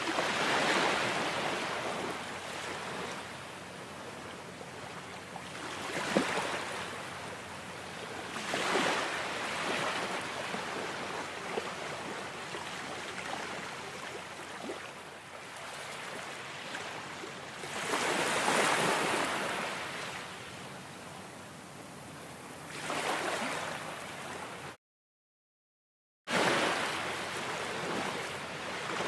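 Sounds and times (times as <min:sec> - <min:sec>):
ocean waves breaking on shore: 0:00.0 - 0:21.2, 0:21.8 - 0:24.8, 0:26.3 - 0:29.0.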